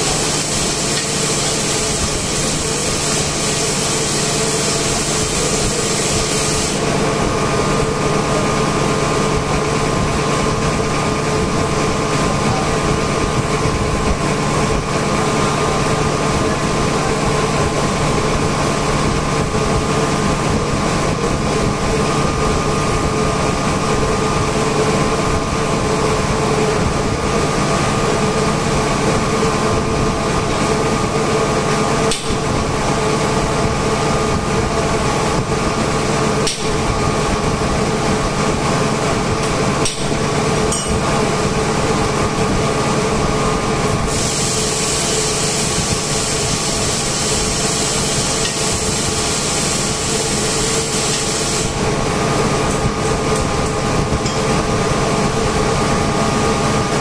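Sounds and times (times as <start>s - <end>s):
industrial machinery humming: 0.0s - 57.0s.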